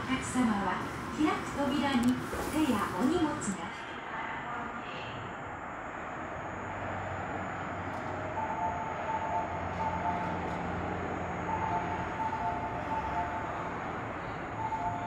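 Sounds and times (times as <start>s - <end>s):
monorail train rumbling: 0.0s - 15.0s.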